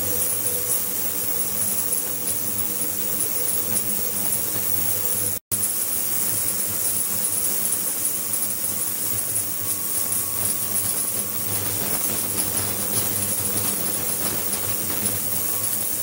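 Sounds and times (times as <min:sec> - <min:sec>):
ultrasonic cleaner hum and hiss: 0:00.0 - 0:16.0.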